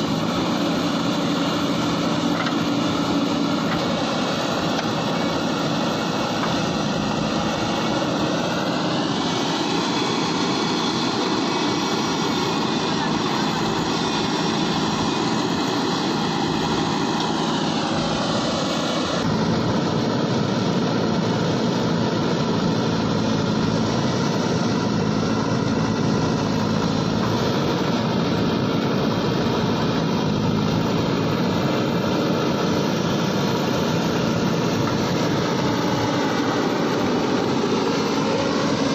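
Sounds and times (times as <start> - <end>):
backhoe loader engine running: 0.0 - 38.9.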